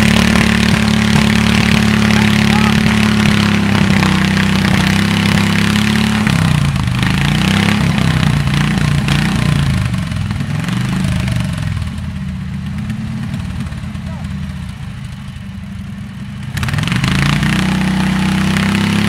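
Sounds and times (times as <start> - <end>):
engine driving a chainsaw: 0.0 - 15.3, 16.4 - 19.0.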